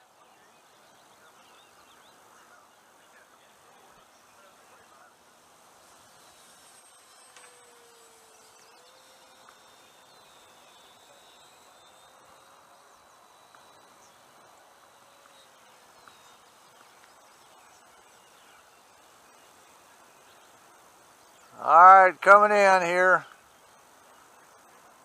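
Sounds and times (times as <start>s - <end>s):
distant model plane motor drone: 0.0s - 25.0s
outdoor hiss: 0.0s - 25.0s.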